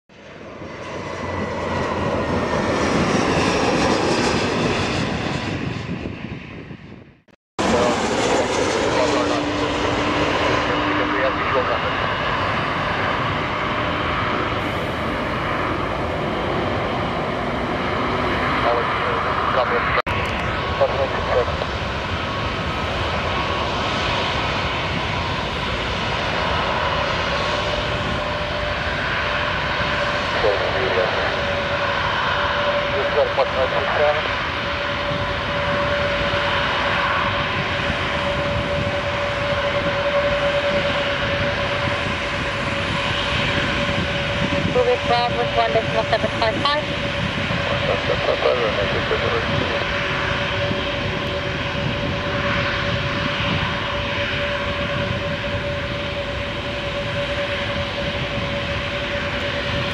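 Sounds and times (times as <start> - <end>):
airplane passing: 0.1 - 59.9
jet engines taxiing: 0.1 - 59.9.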